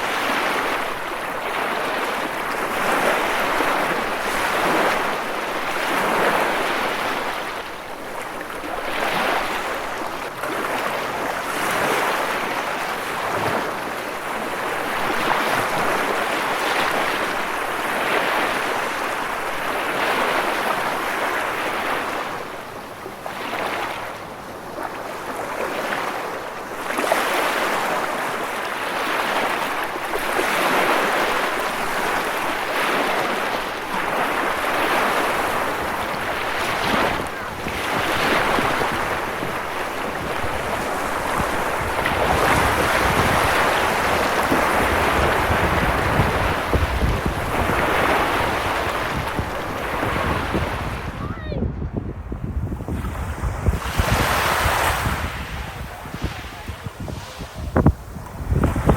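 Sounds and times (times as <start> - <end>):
ocean waves breaking: 0.0 - 58.9.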